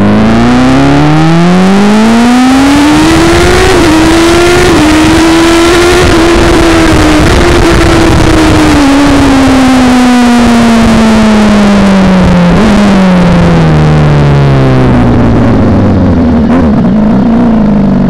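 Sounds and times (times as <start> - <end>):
loud motorcycle engine revving: 0.0 - 18.0.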